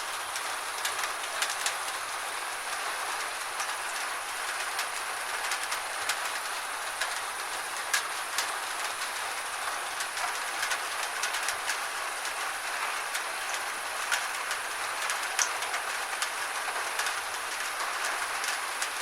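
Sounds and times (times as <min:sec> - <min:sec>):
gentle rain falling: 0:00.0 - 0:19.0.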